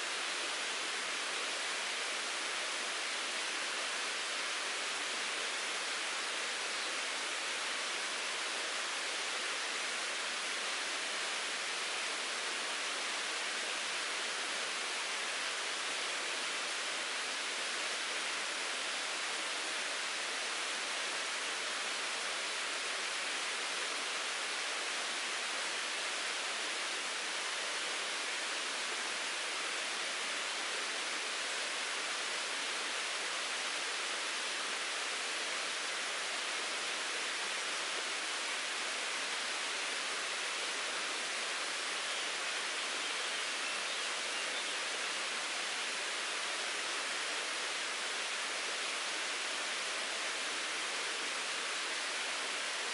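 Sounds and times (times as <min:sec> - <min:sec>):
stream babbling and rushing: 0:00.0 - 0:52.9.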